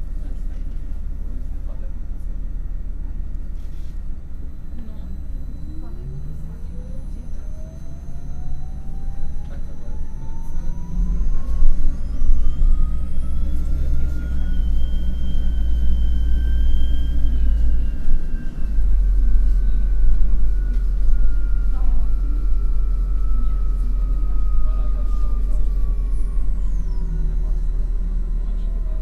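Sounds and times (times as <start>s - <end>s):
electric bus drive whine: 0.0s - 29.0s
heavy low rumble: 0.0s - 29.0s.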